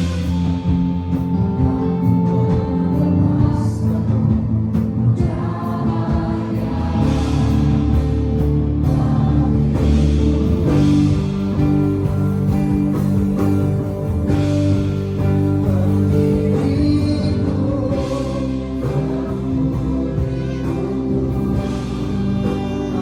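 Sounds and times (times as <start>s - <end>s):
worship music with singers and band: 0.0s - 23.0s.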